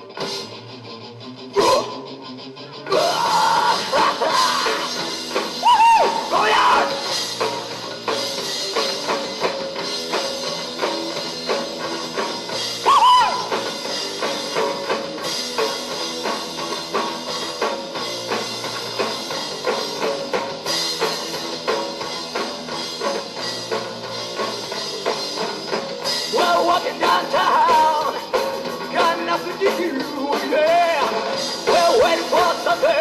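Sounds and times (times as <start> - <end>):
electric guitar: 0.0 - 33.0
drum kit steady beat: 2.9 - 33.0.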